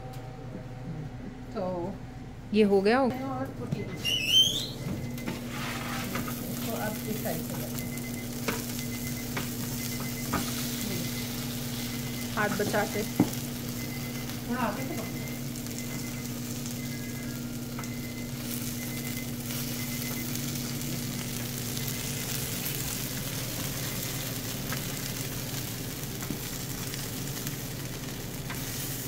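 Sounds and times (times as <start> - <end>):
kitchen equipment hum: 0.0 - 29.0
food frying sizzle: 4.1 - 29.0.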